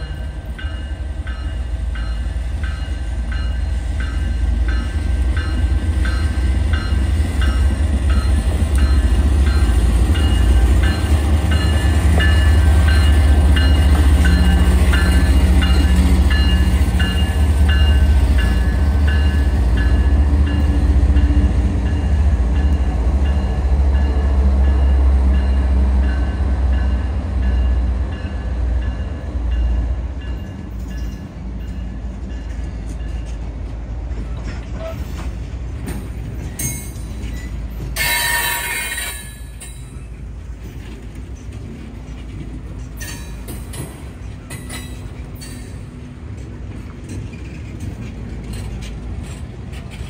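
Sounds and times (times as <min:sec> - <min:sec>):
diesel locomotive engine rumble: 0:00.0 - 0:50.0
train cars rolling on rails: 0:00.0 - 0:50.0.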